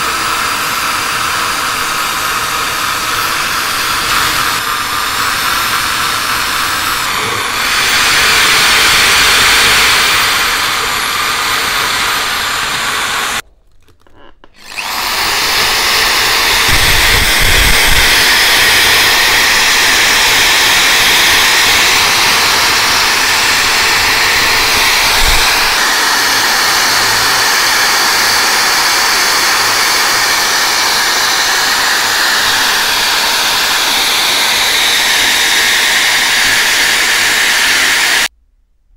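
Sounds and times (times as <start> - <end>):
electric drill scouring rust: 0.0 - 13.4, 14.6 - 38.3.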